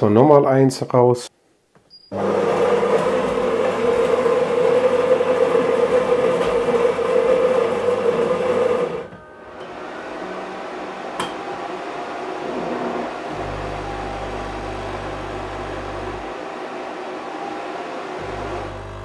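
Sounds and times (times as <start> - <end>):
espresso machine humming: 2.1 - 19.0.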